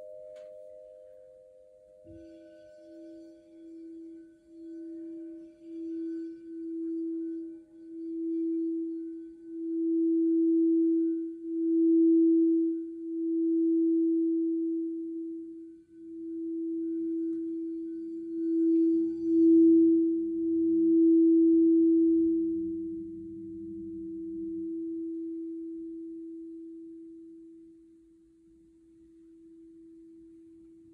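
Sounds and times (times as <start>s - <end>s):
crystal singing bowl tone: 0.0s - 30.9s.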